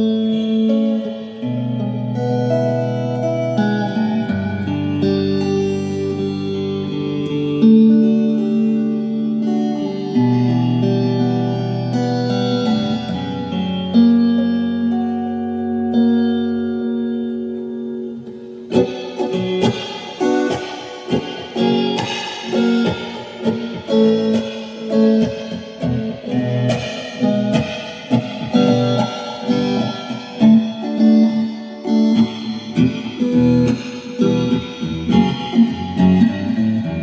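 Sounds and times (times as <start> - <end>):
guitar picking and strumming: 0.0 - 37.0.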